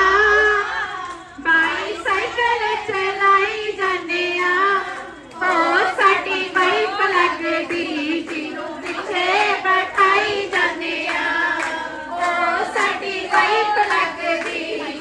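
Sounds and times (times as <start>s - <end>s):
woman singing into a microphone: 0.0s - 15.0s
women clapping along: 0.1s - 15.0s.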